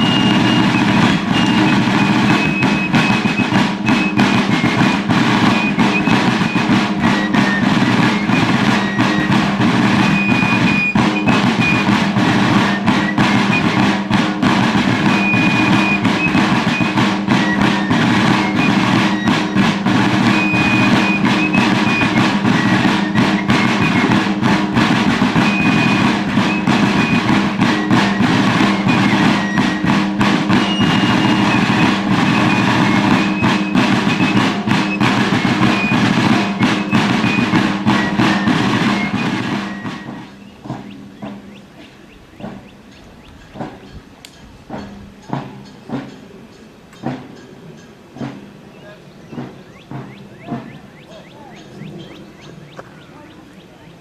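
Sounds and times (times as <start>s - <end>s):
fife melody: 0.0s - 44.3s
field drums rolling: 0.0s - 54.0s.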